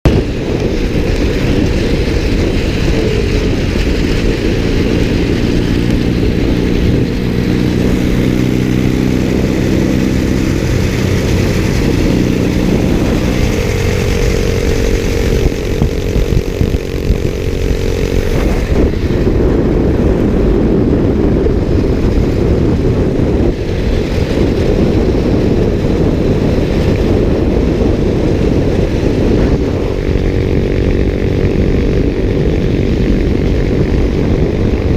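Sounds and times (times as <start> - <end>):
heavy wind noise: 0.0 - 34.9
motorcycle engine running: 0.0 - 34.9.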